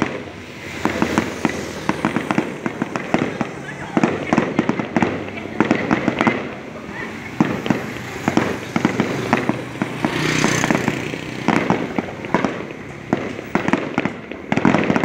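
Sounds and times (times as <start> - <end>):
fireworks bangs and pops: 0.0 - 15.0
fireworks crackling hiss: 0.0 - 15.0.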